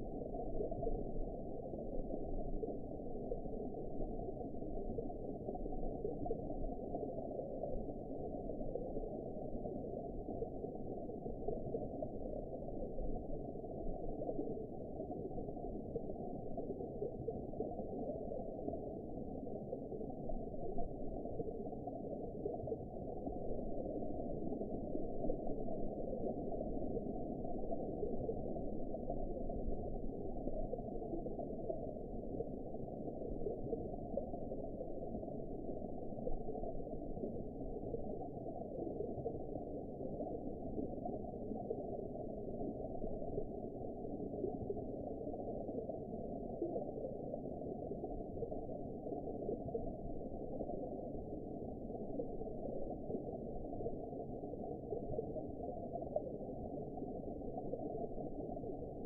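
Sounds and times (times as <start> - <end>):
low underwater noise: 0.0 - 59.0.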